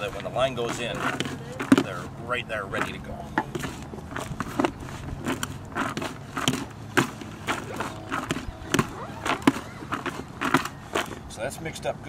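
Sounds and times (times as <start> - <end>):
wet bait mix being stirred: 0.0 - 11.8.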